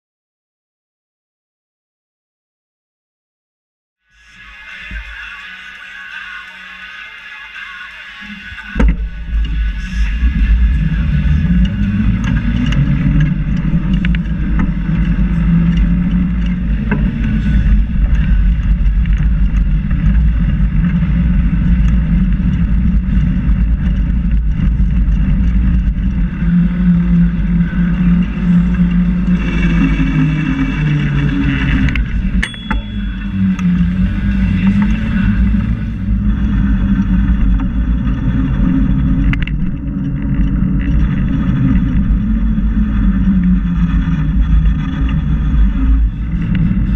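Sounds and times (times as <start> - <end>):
low rumble of riding: 4.1 - 46.9
wavering hum: 4.1 - 46.9.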